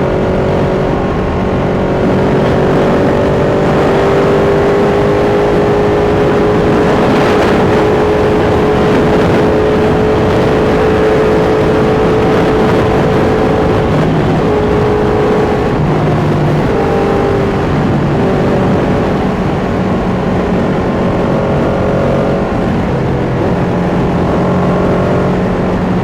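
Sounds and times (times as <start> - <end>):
heavy wind rush: 0.0 - 26.0
motorcycle engine cruising: 0.0 - 26.0.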